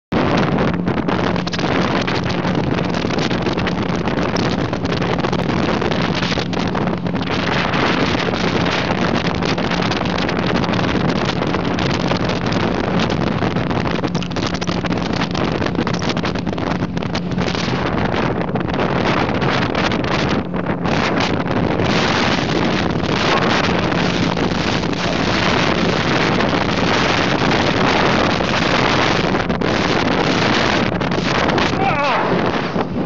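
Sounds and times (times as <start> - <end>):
hull pounding waves: 0.1 - 33.0
wind buffeting microphone: 0.1 - 33.0
boat motor humming: 0.2 - 33.0.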